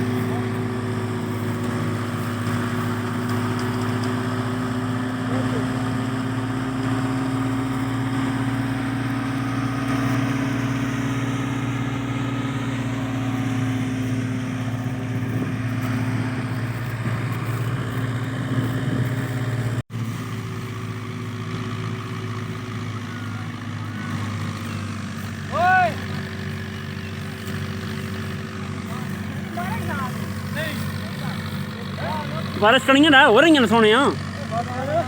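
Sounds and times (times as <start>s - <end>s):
thresher machine running: 0.0s - 35.0s.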